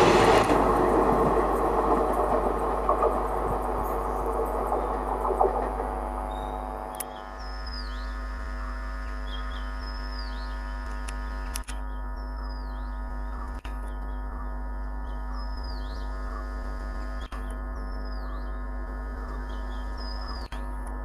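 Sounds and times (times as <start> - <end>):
steady droning hum: 0.0 - 21.0.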